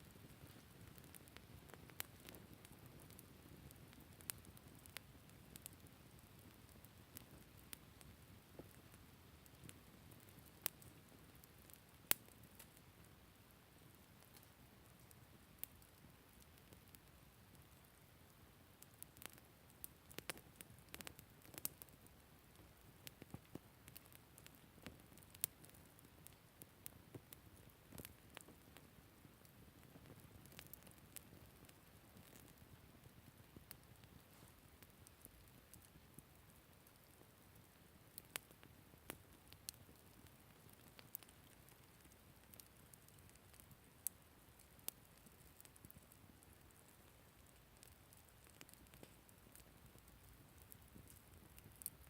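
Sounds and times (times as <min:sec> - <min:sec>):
campfire crackling and popping: 0:00.0 - 0:52.0
low hiss of fire: 0:00.0 - 0:52.0.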